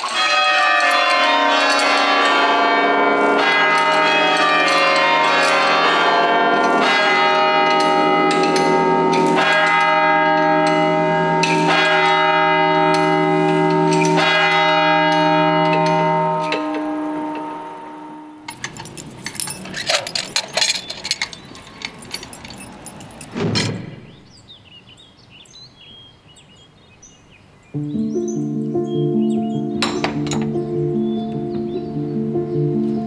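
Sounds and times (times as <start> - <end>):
church bells ringing: 0.0 - 23.3, 27.8 - 33.0.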